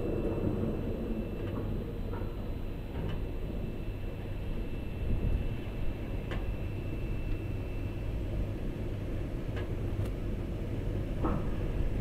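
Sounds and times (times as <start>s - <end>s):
machinery low rumble: 0.0s - 12.0s.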